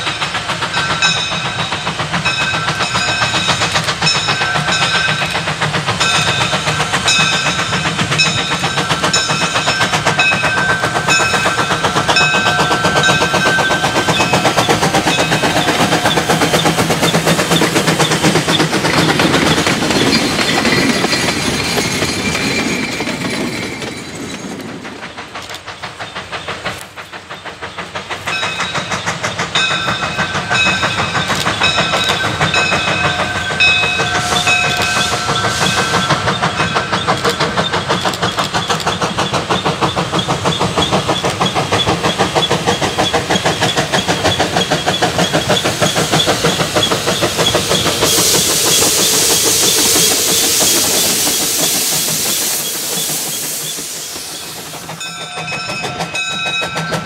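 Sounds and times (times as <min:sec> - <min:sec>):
steam locomotive exhaust chuffing: 0:00.0 - 0:57.0.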